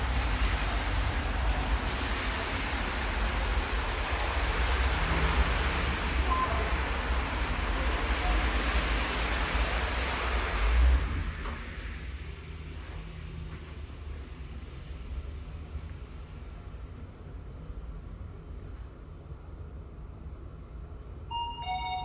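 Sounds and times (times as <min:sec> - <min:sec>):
elevator ride rushing noise: 0:00.0 - 0:22.0.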